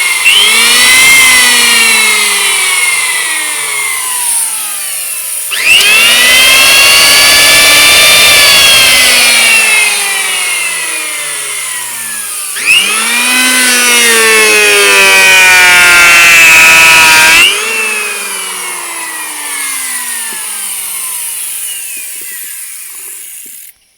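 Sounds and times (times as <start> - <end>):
planer scraping wood: 0.0 - 23.8
electric hand planer whining: 0.0 - 23.9.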